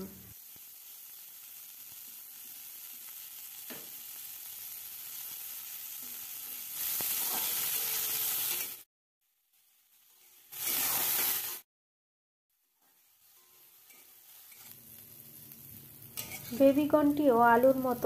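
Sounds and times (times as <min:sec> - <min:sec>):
corn frying in hot oil: 0:00.2 - 0:11.7, 0:12.5 - 0:18.0.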